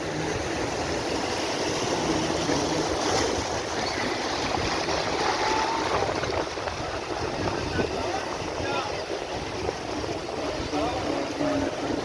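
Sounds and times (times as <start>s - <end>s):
sea water rushing: 0.0s - 12.0s
wind buffeting the microphone: 0.0s - 12.0s.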